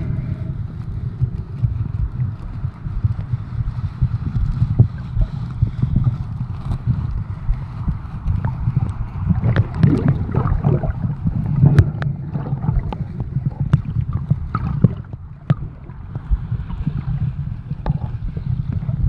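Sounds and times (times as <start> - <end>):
sharp underwater clicks and knocks: 0.0 - 19.0
underwater low rumble: 0.0 - 19.0
water gurgling: 0.0 - 19.0.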